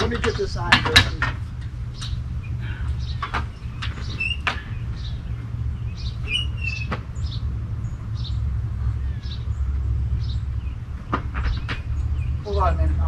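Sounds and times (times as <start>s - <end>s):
bird chirping: 0.0s - 13.0s
steady low rumble: 0.0s - 13.0s.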